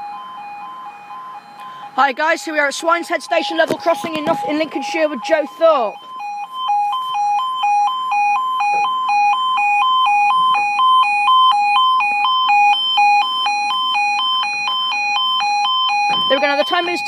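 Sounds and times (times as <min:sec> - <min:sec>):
electronic two-tone alarm: 0:00.0 - 0:17.0.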